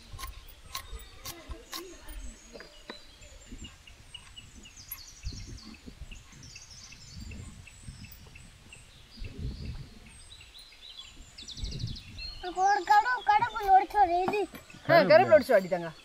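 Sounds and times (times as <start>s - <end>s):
bird chirping: 0.0s - 16.0s
birds warbling song: 0.0s - 16.0s.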